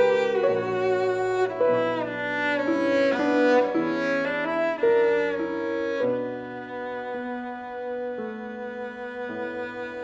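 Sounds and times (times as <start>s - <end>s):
bowed cello: 0.0s - 10.0s.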